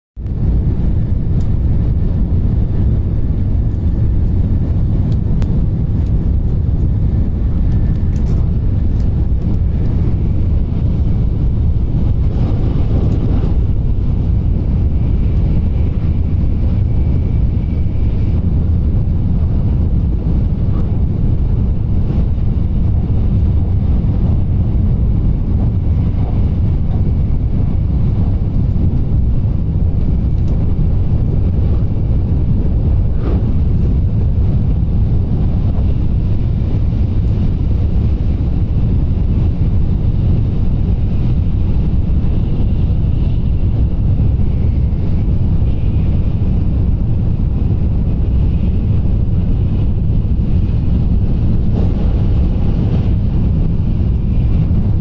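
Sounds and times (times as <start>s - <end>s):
train cabin low rumble: 0.2s - 55.0s.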